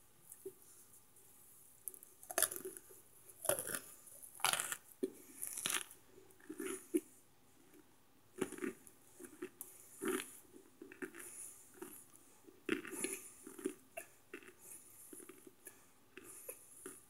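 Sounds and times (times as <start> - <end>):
slow dry crunch chewing: 1.8 - 17.0.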